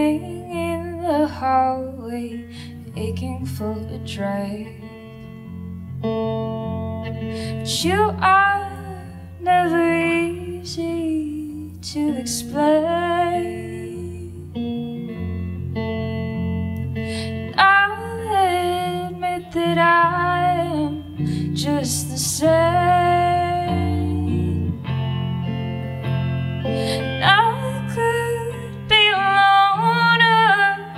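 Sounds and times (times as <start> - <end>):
woman singing: 0.0 - 5.3, 7.3 - 15.4, 17.0 - 24.9, 26.8 - 30.9
electric guitar chords: 0.0 - 30.9.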